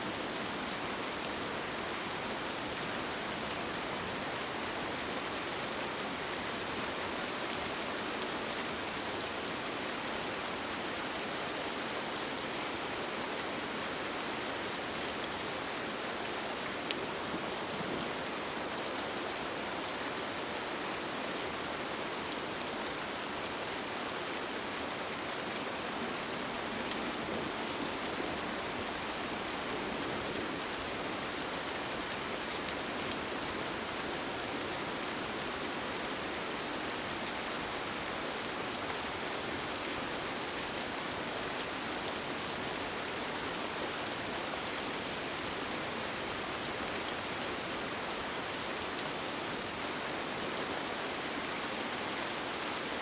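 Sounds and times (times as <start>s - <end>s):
rain falling on a tent: 0.0s - 53.0s.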